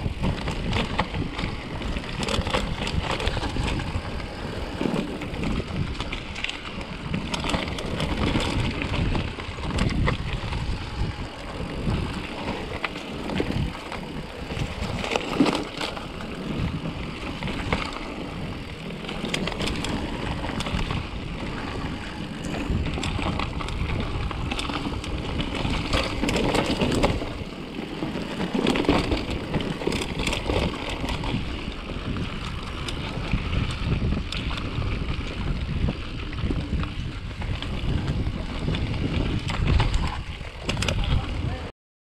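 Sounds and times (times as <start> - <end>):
bike clicks and rattles: 0.0 - 41.7
bike tyre noise on dirt: 0.0 - 41.7
wind rush over microphone: 0.0 - 41.7.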